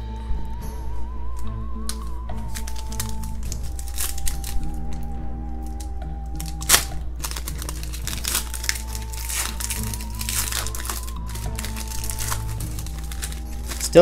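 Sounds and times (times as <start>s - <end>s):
soft background music: 0.0s - 14.0s
foil wrapper crinkling and tearing: 1.8s - 14.0s.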